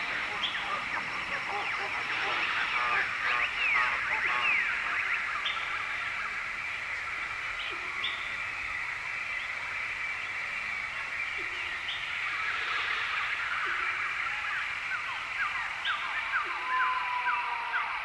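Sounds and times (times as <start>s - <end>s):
steady high hum: 0.0s - 16.6s
birds chirping: 0.0s - 18.0s.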